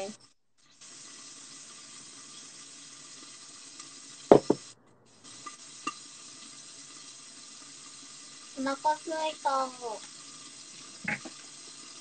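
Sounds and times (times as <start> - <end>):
seafood sizzling in a pan: 0.8 - 12.0.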